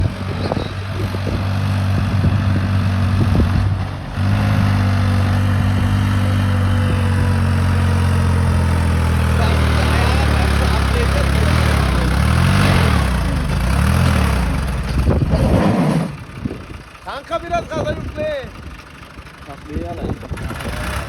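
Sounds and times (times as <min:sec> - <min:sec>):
engine knocks: 0:00.0 - 0:21.0
vehicle engine idling: 0:00.0 - 0:21.0.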